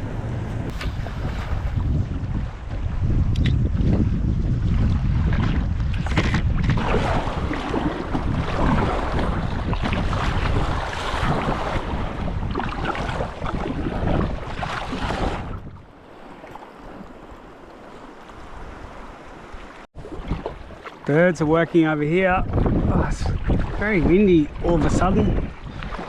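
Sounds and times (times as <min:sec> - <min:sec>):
sea water splashing: 0:00.0 - 0:26.0
wind buffeting microphone: 0:00.0 - 0:26.0.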